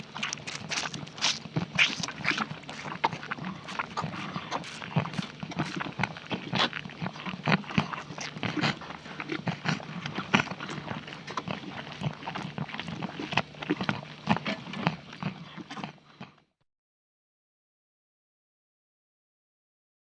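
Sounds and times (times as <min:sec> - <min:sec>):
farm animal noises: 0:00.0 - 0:16.4.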